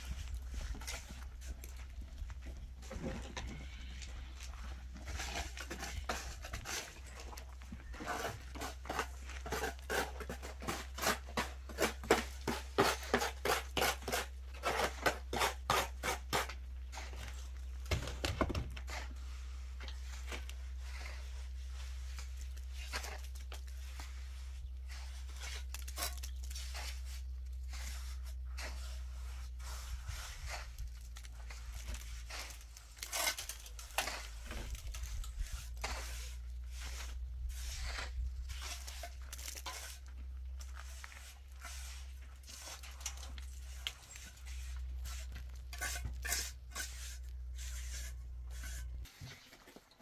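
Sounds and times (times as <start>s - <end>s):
gritty scrapes of masonry blocks: 0.0s - 50.0s.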